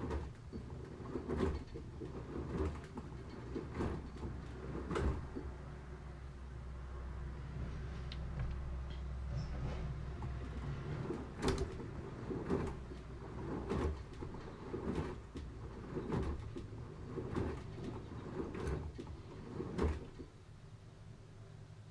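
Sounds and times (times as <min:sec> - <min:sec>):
laundry swishing in drum: 0:00.0 - 0:05.6, 0:07.5 - 0:20.3
low motor hum: 0:00.0 - 0:20.3.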